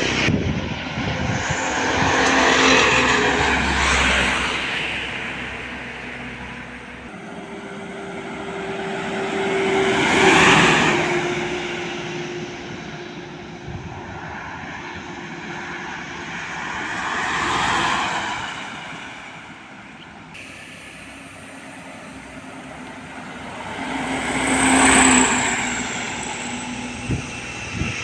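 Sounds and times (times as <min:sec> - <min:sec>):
trucks passing with whine: 0:00.0 - 0:28.0.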